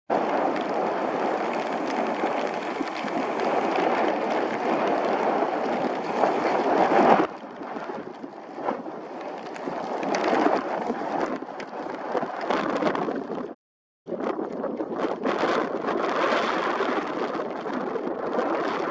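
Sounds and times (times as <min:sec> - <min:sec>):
rough sea water churning: 0:00.1 - 0:18.9
wind blowing over microphone: 0:00.1 - 0:18.9.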